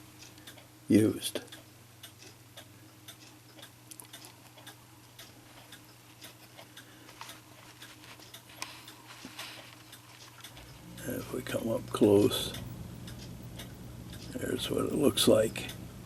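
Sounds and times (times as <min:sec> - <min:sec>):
low steady hum: 0:00.0 - 0:16.0
mechanical clock ticking: 0:00.2 - 0:09.1, 0:09.8 - 0:16.0.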